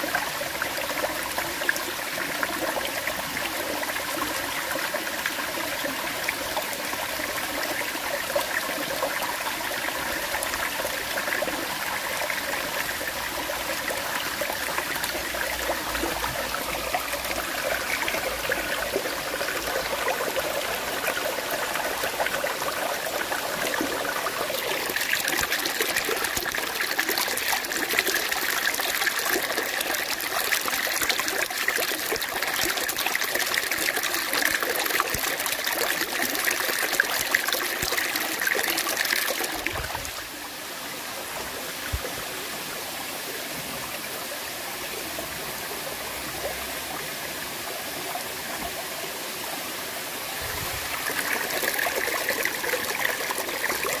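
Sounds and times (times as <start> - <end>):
running water rushing: 0.0 - 42.8, 45.9 - 54.0.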